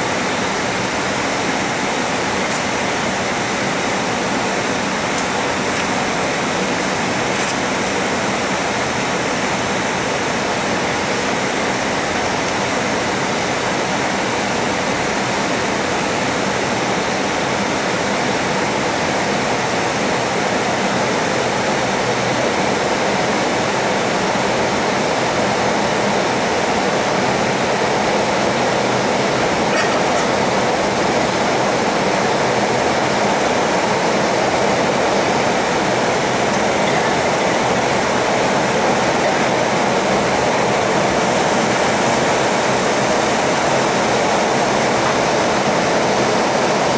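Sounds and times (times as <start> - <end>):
jet engines: 0.0 - 46.9.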